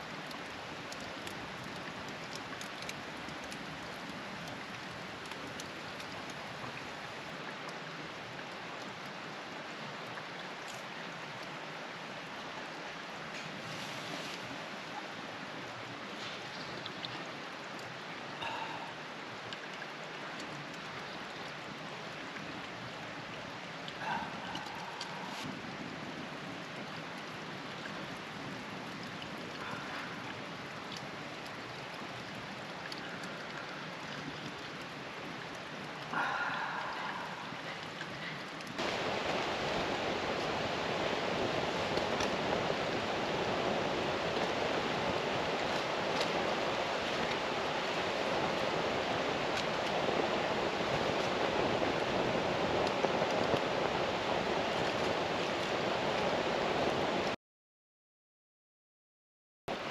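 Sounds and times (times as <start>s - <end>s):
flowing water rushing: 0.0s - 57.4s.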